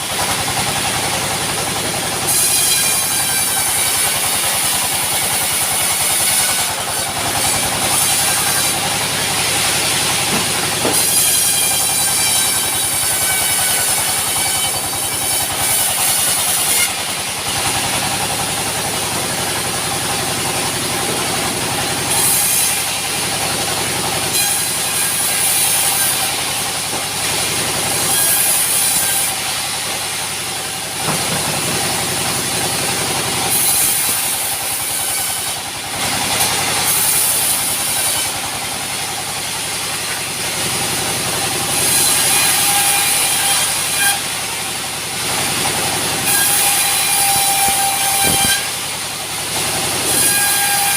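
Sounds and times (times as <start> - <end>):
sawmill saw cutting timber: 0.0 - 50.9.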